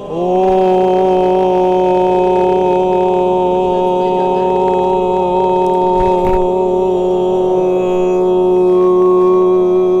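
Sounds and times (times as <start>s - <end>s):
man throat singing drone: 0.0s - 10.0s.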